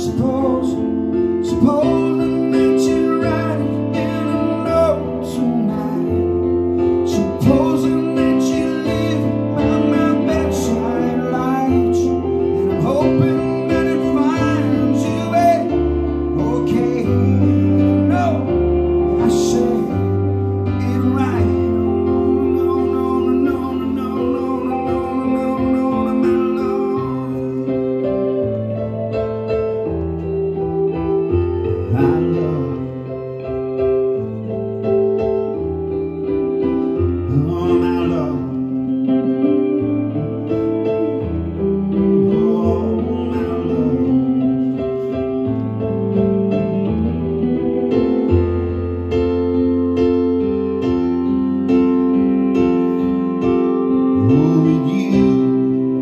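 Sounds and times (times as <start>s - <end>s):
guitar: 0.0s - 56.0s
keyboard playing chords: 0.0s - 56.0s.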